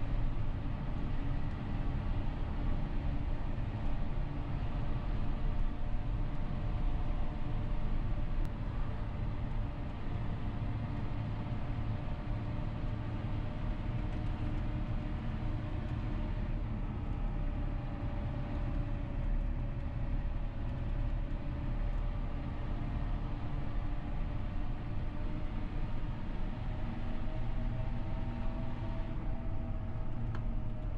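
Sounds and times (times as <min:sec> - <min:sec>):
tractor diesel engine drone: 0:00.0 - 0:30.9.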